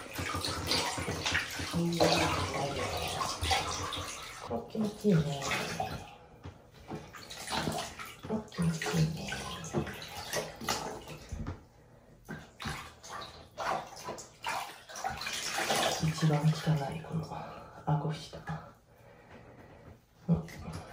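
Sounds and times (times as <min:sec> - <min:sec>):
water splashing in a plastic tub: 0:00.0 - 0:20.9.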